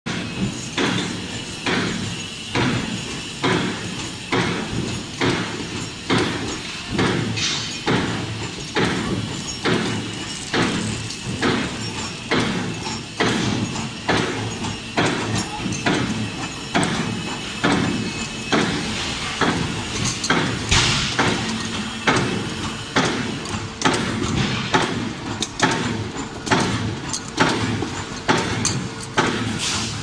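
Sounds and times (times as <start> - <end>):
factory machinery running: 0.1 - 30.0.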